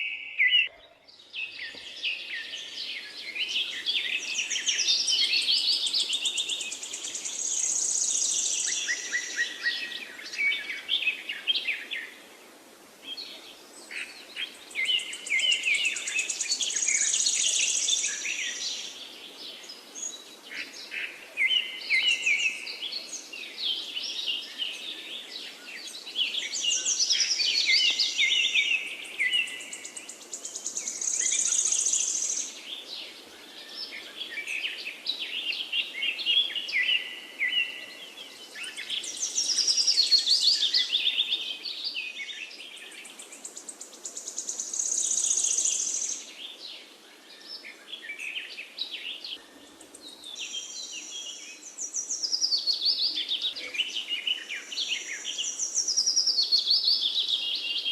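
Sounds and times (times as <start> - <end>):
songbirds singing and chirping: 0.0 - 57.9.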